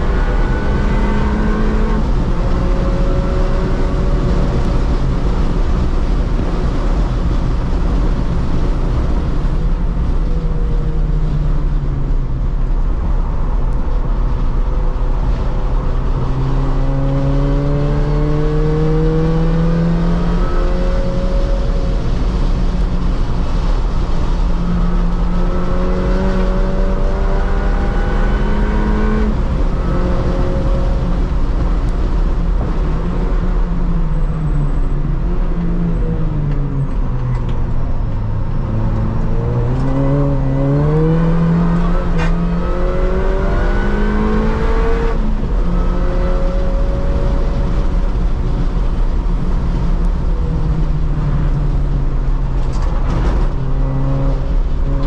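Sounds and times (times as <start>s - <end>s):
car engine at full throttle: 0.0s - 55.0s
road and wind rumble: 0.0s - 55.0s.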